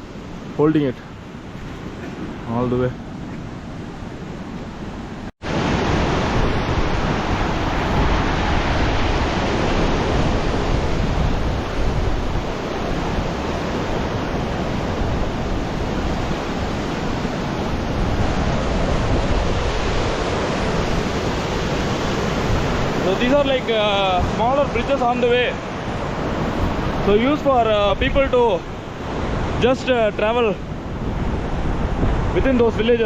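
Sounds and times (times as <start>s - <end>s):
river rushing: 0.0s - 33.0s
wind rumbling on microphone: 1.1s - 33.0s.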